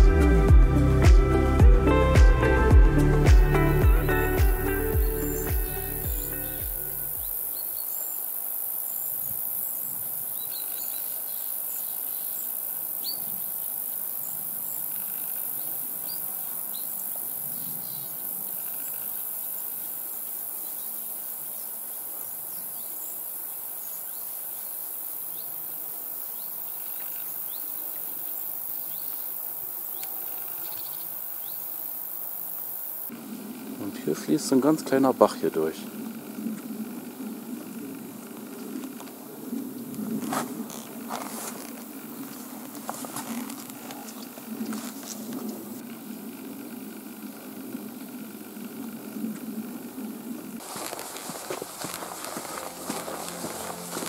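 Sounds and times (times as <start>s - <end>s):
insects chirring: 3.6s - 54.0s.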